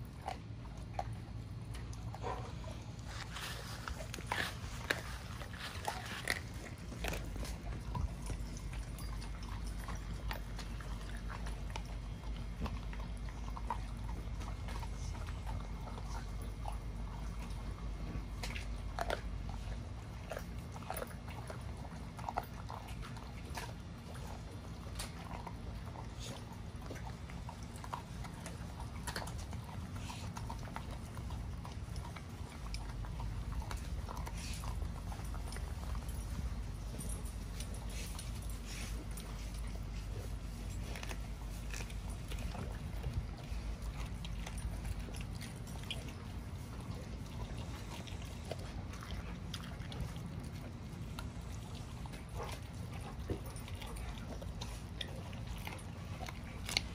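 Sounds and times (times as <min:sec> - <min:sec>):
dog chewing meat and bone: 0:00.0 - 0:56.9.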